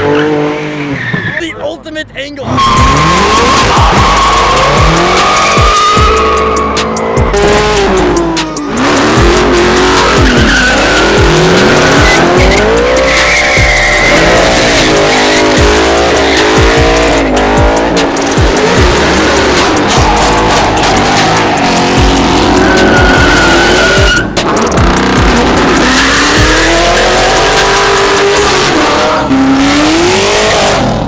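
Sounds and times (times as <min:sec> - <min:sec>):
car engine revving hard: 0:00.0 - 0:01.0, 0:02.5 - 0:31.0
tyre squeal: 0:00.0 - 0:01.6, 0:02.4 - 0:30.8
heavy bass music beat: 0:01.8 - 0:31.0.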